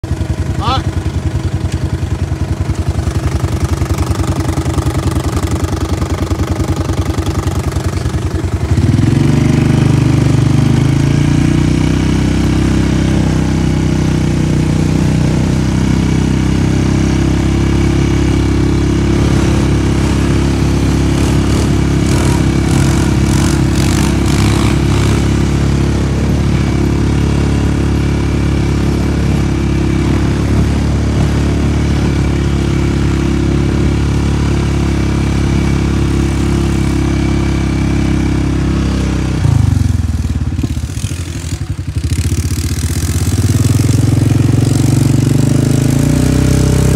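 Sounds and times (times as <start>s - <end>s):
atv engine idling and revving: 0.0s - 46.9s.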